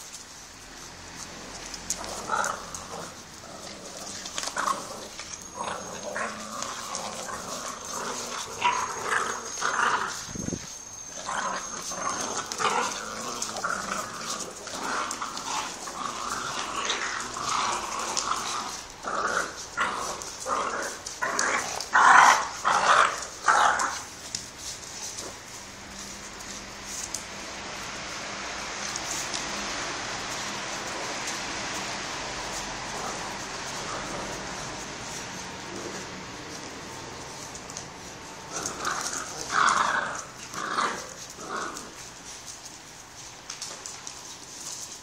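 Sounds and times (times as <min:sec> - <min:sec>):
dogs yipping whining and growling: 0:00.0 - 0:28.1, 0:28.8 - 0:45.0.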